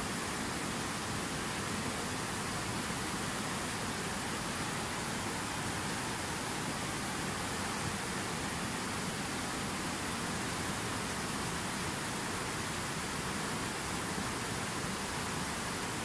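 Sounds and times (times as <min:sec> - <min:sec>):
river rushing through rapids: 0:00.0 - 0:16.0.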